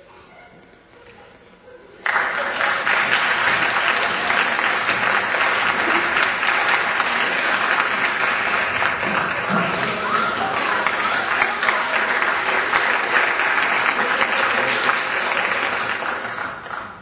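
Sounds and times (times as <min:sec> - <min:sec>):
audience applause: 0:02.0 - 0:17.0.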